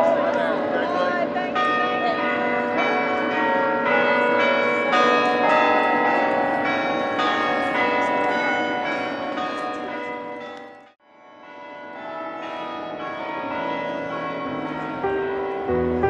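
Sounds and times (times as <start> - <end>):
carillon bells ringing: 0.0 - 16.0.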